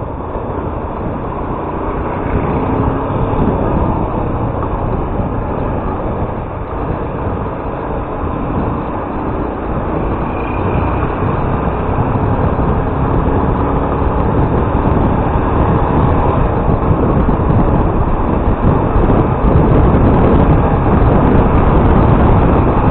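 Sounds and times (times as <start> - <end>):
motorcycle engine: 0.0 - 22.9
road and wind noise: 0.0 - 22.9.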